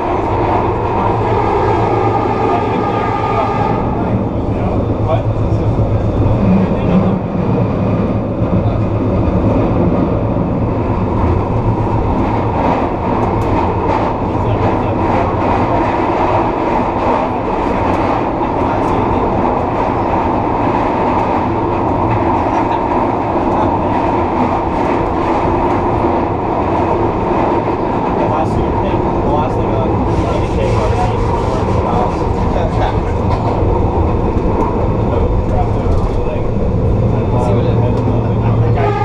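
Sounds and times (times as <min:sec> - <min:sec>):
wheels rumbling on rail: 0:00.0 - 0:39.0.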